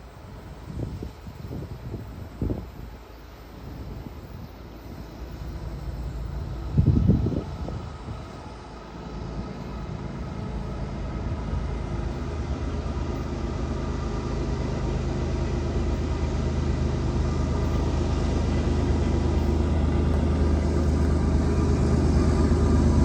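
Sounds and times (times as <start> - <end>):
diesel locomotive engine hum: 0.0 - 23.0.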